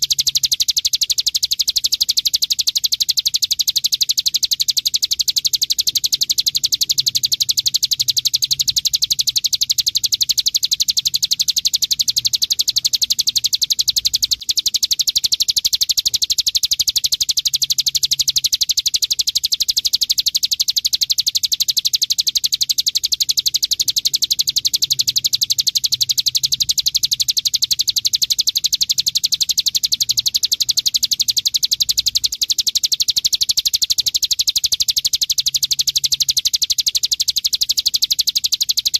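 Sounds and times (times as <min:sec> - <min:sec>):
bird singing fast rattling trill: 0:00.0 - 0:38.9.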